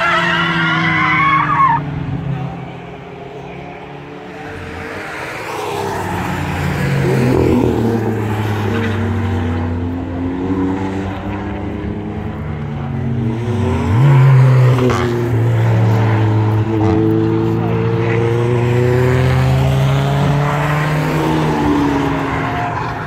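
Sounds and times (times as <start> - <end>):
race car engines passing: 0.0 - 23.0
car accelerating hard: 4.2 - 23.0.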